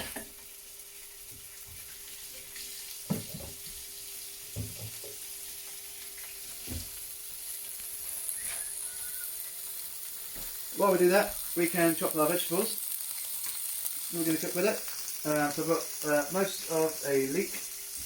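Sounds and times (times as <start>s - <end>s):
bacon sizzling in a pan: 0.0s - 18.0s.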